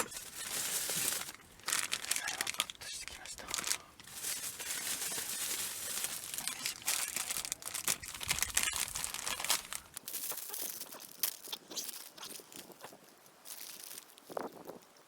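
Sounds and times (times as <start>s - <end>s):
crinkling and rustling: 0.0s - 15.0s.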